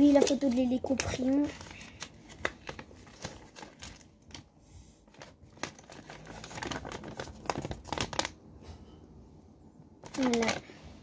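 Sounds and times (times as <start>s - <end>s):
paper crinkling and rustling: 0.0s - 8.4s, 10.0s - 11.0s.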